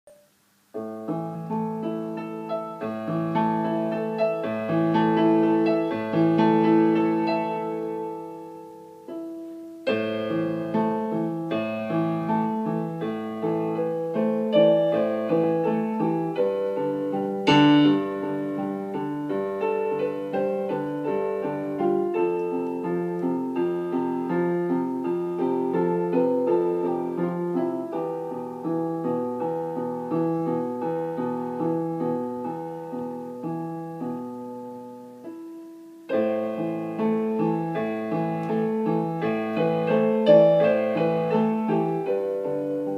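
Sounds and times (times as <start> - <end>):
piano chords: 0.1 - 42.9.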